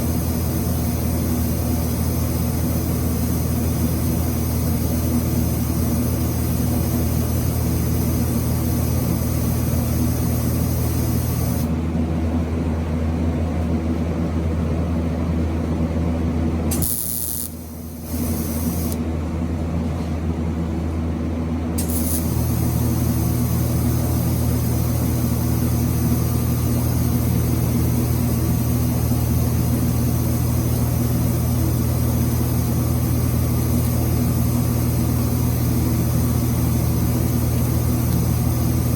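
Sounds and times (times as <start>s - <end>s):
welder buzzing and hissing: 0.0s - 11.8s, 16.7s - 19.0s, 21.8s - 38.9s.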